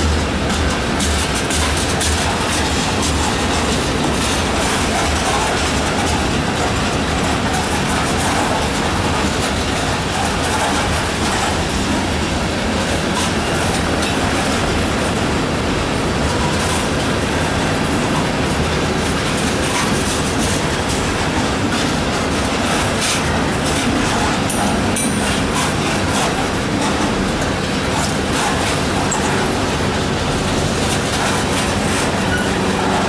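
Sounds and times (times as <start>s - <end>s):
train wheels rumbling on rails: 0.0s - 33.0s
wheels clicking over rail joints: 0.0s - 33.0s.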